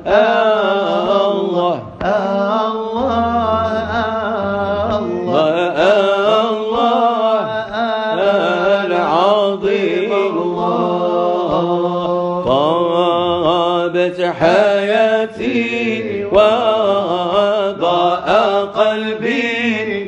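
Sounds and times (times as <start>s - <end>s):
male voices singing: 0.0s - 20.0s.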